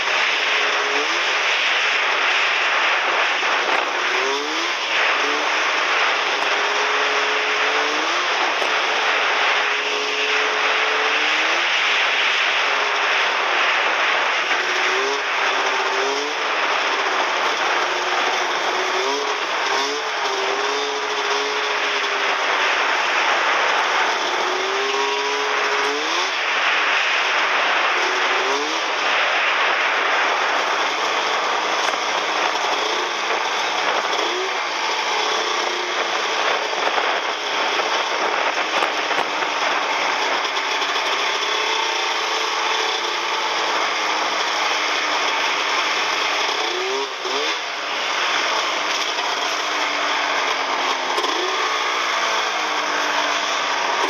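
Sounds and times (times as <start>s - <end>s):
snowmobile engine running: 0.0s - 54.0s
steady rushing noise: 0.0s - 54.0s.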